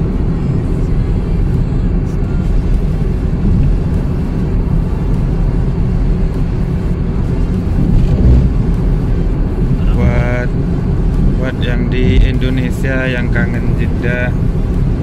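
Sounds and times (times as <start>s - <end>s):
vehicle road noise: 0.0s - 15.0s
wind: 0.0s - 15.0s.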